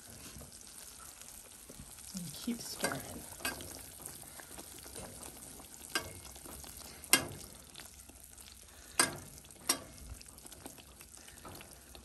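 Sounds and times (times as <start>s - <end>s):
caramel bubbling in a saucepan: 0.0s - 12.0s.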